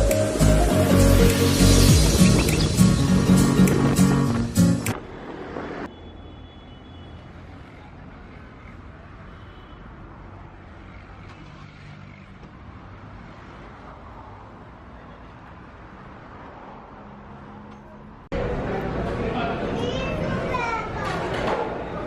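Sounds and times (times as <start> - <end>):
road vehicle engine hum: 0.0 - 19.3.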